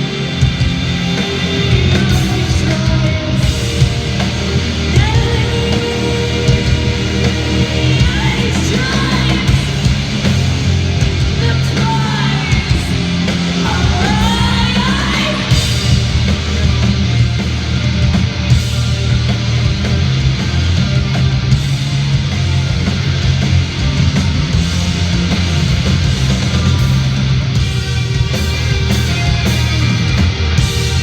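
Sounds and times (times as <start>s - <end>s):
punk rock band playing: 0.0s - 31.0s
yelled vocals: 0.0s - 31.0s.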